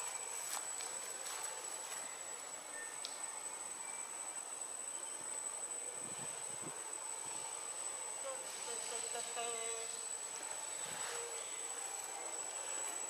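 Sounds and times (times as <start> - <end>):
insects droning: 0.0 - 13.0
outdoor background hiss: 0.0 - 13.0.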